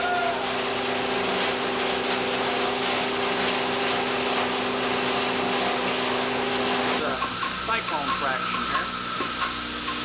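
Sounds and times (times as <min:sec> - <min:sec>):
shredding mill running: 0:00.0 - 0:10.0.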